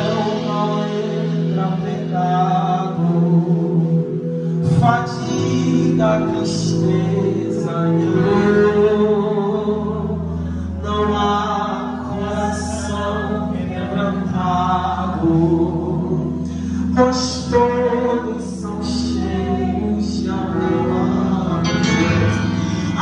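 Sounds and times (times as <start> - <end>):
man singing a hymn: 0.0 - 23.0
sustained accompaniment chords: 0.0 - 23.0.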